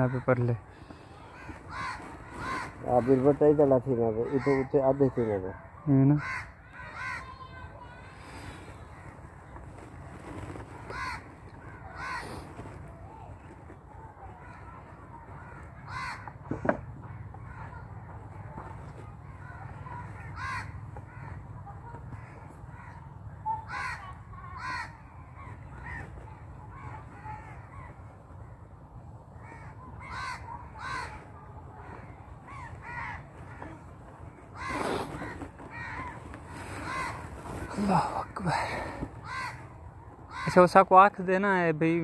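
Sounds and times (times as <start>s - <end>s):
birds cawing: 0.0s - 9.6s, 10.3s - 12.8s, 14.4s - 28.7s, 29.3s - 40.8s.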